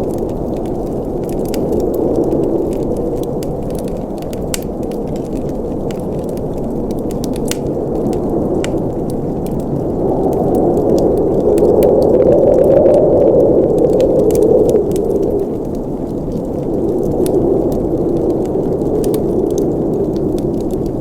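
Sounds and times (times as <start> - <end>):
burning wood crackling and popping: 0.0 - 21.0
rush of fireplace flames: 0.0 - 21.0.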